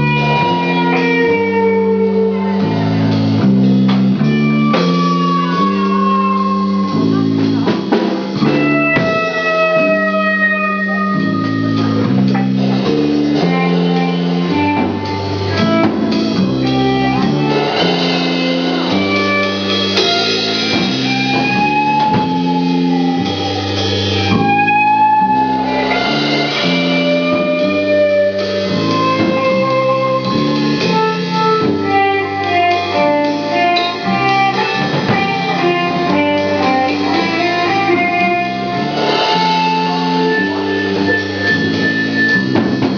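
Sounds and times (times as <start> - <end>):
lead guitar bending notes: 0.0 - 42.9
rock band playing: 0.0 - 42.9.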